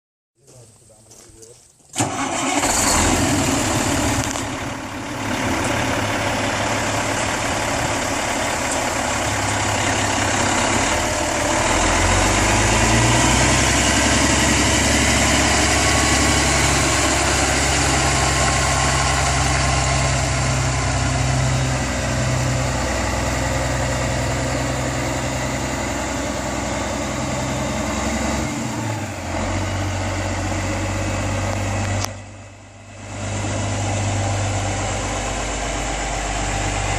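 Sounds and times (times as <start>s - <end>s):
diesel truck engine idling: 2.0s - 36.9s.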